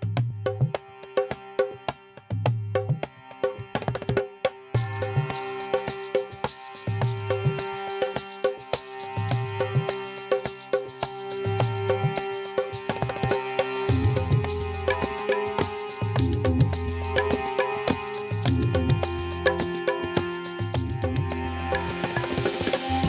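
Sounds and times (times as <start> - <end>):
background music with percussive beat: 0.0 - 23.0.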